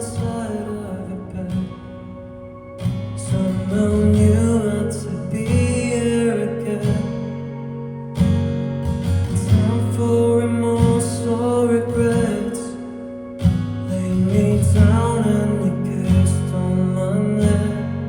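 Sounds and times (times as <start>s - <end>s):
person singing: 0.0s - 2.3s, 3.1s - 8.0s, 9.3s - 18.0s
guitar: 0.0s - 18.0s
low accompaniment: 0.0s - 18.0s.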